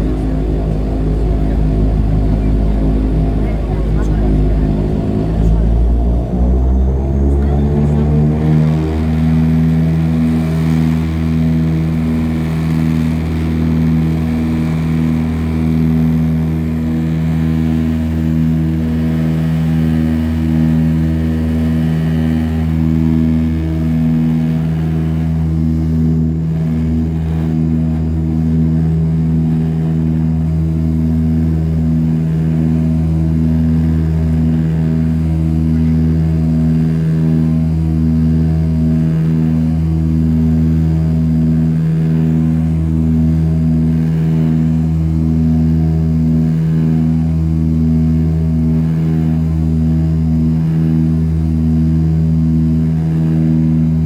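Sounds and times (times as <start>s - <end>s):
pulsing propeller drone: 0.0s - 54.0s.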